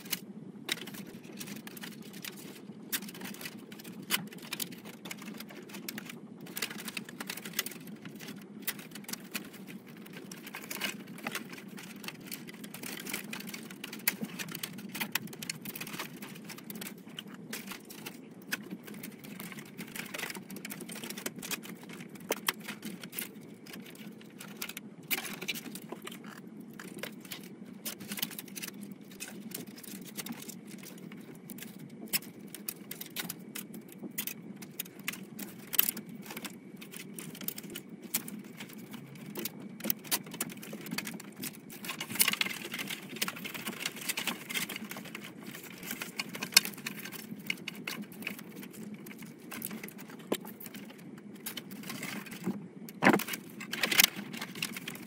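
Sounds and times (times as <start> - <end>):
cables clicking and rustling: 0.0 - 55.0
steady background hum: 0.0 - 55.0.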